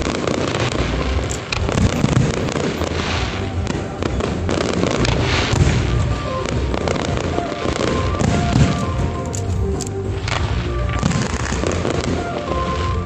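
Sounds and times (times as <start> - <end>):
loud fireworks bangs: 0.0 - 9.5, 10.1 - 13.0
fireworks popping: 0.0 - 13.0.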